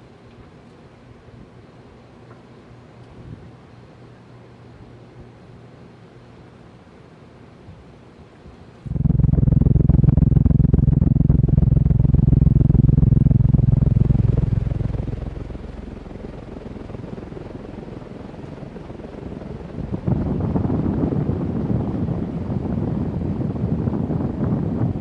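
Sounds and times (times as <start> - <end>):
ceiling fan rumbling hum: 0.0 - 25.0.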